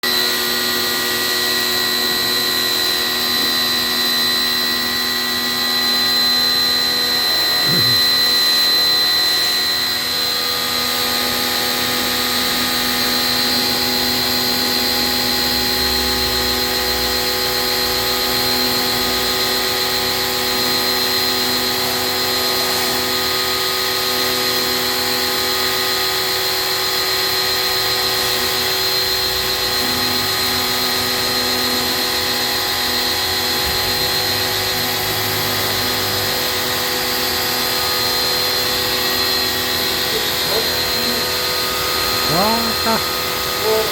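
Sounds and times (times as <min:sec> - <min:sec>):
electric motor whining: 0:00.0 - 0:43.9.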